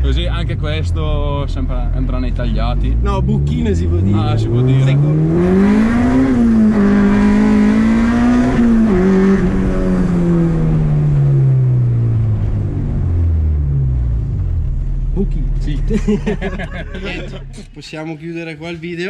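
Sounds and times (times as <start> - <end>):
car engine accelerating through gears: 0.1 - 17.6.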